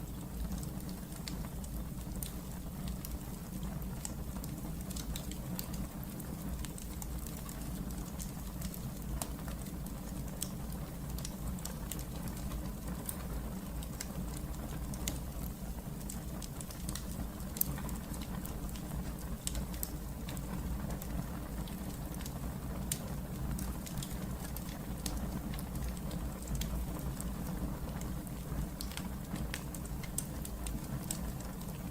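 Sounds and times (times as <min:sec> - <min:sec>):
low rumble of burning fire: 0:00.0 - 0:31.9
fire pops and snaps: 0:00.4 - 0:31.9.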